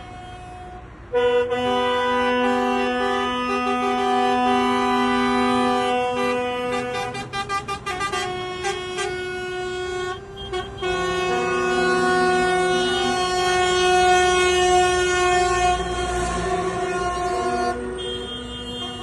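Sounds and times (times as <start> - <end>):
truck air horns blasting: 0.0 - 19.0.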